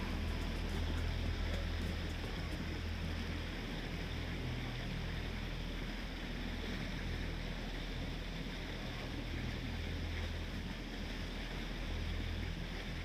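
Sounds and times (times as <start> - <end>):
motorboat engine droning: 0.0 - 13.0
water wash and air noise: 0.0 - 13.0.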